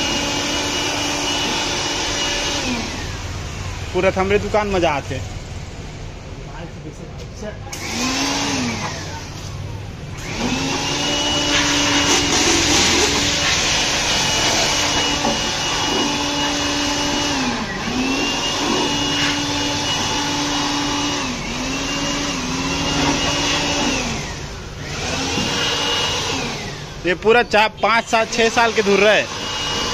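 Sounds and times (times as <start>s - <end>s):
electric air blower whining: 0.0s - 5.2s, 7.6s - 29.9s.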